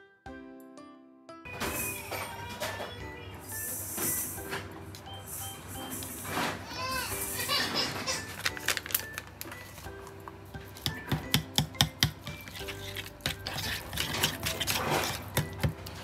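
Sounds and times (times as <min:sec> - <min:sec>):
background music: 0:00.0 - 0:16.0
dishes and cutlery clinking: 0:01.5 - 0:03.1, 0:03.9 - 0:16.0.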